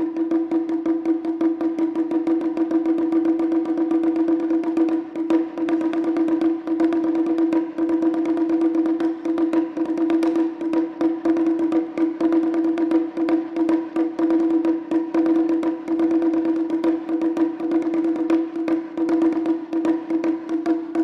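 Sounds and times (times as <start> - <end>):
wooden percussion strikes: 0.0 - 21.0.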